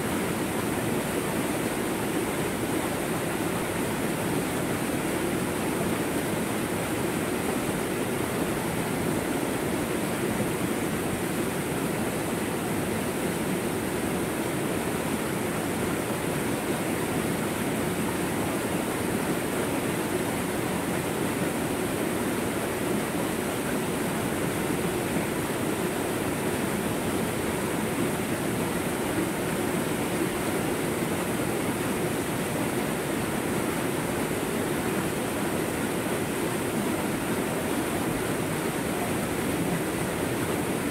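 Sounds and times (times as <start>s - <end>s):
stream rushing over boulders: 0.0s - 40.9s.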